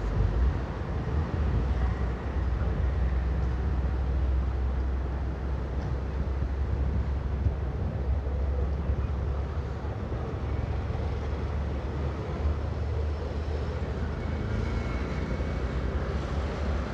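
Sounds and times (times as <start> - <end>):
train wheels rumbling on rail: 0.0 - 16.9.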